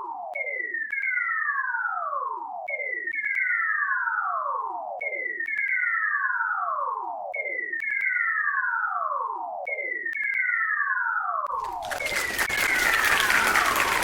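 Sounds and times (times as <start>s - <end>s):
synthesized falling whistle: 0.4s - 11.4s, 12.0s - 14.0s.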